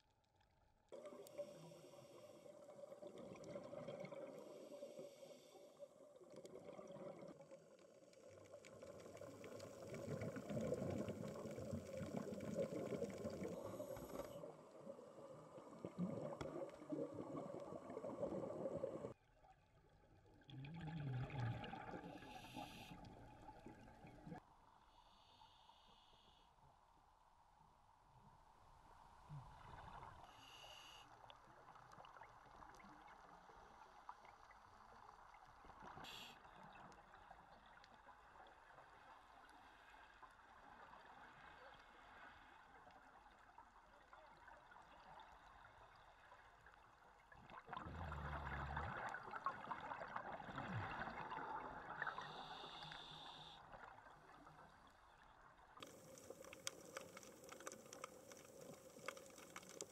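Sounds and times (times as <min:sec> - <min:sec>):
muffled underwater hiss: 0:01.0 - 0:19.2, 0:21.6 - 0:26.9, 0:28.3 - 0:46.8, 0:47.5 - 0:59.9
water bubbling and gurgling: 0:01.0 - 0:19.2, 0:20.1 - 0:24.4, 0:31.3 - 0:52.8, 0:53.6 - 0:59.9.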